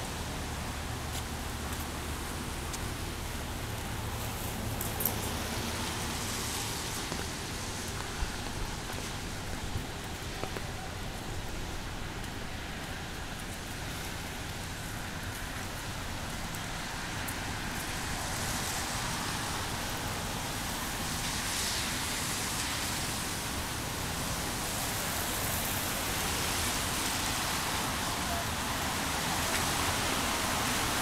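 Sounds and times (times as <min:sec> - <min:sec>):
rain hissing: 0:00.0 - 0:31.0
tyres on wet road: 0:00.0 - 0:31.0.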